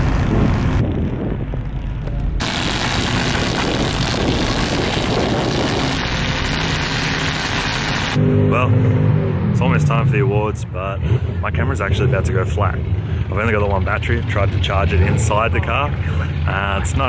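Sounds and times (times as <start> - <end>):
car engines droning: 0.0 - 17.0.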